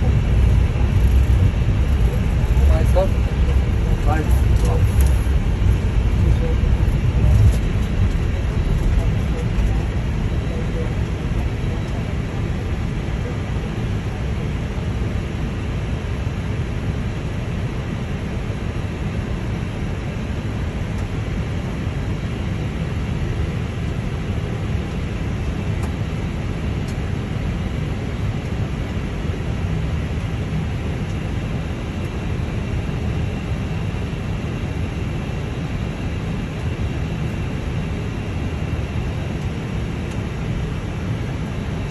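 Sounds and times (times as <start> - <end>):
airliner cockpit rumble and hiss: 0.0 - 41.9.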